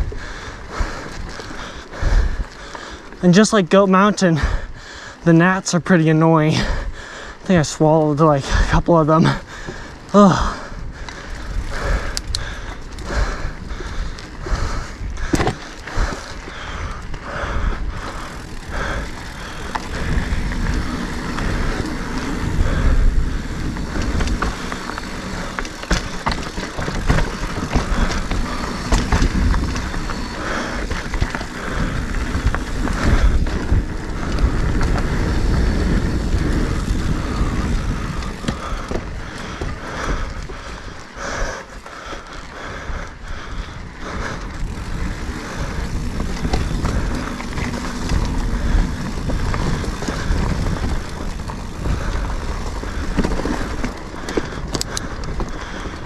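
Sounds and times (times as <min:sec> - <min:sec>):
bike rattling over bumps: 0:00.0 - 0:56.0
bike tyres rumbling on dirt: 0:00.0 - 0:56.0.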